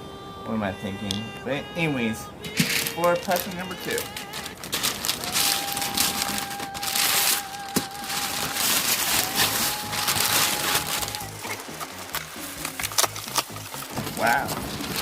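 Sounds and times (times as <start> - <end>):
wrapping paper tearing and crumpling: 2.5 - 15.0.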